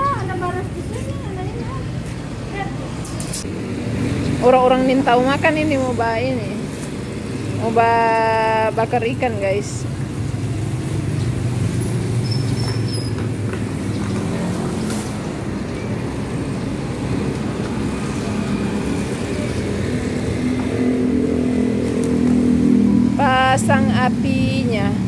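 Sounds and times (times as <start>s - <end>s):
cars and motorcycles passing: 0.0s - 25.0s.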